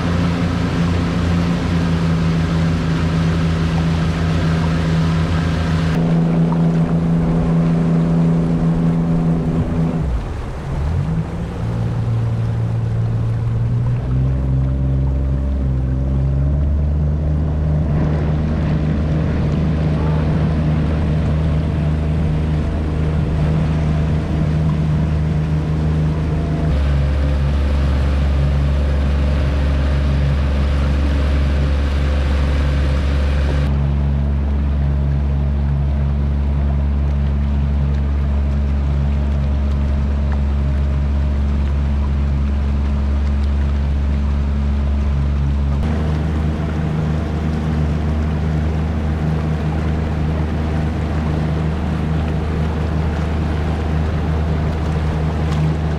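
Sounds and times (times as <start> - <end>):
outboard motor drone: 0.0 - 55.9
water rushing along hull: 0.0 - 55.9.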